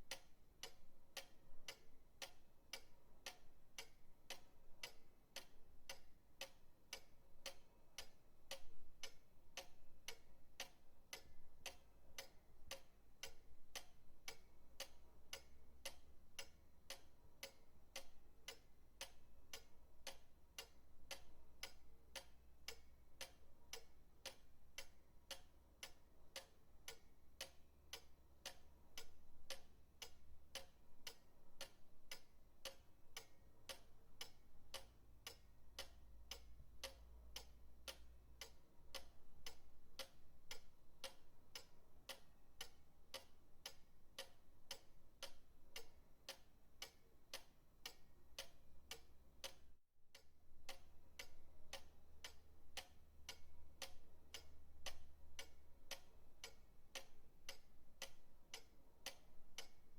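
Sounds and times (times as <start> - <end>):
pendulum clock ticking: 0.0 - 59.9.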